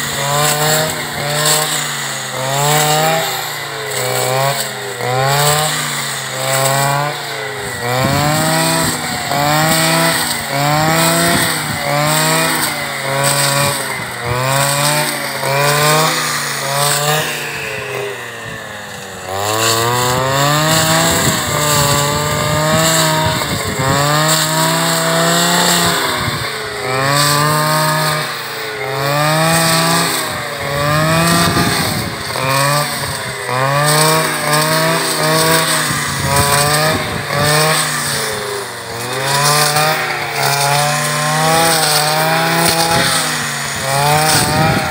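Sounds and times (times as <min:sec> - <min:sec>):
brush cutter revving: 0:00.0 - 0:44.9.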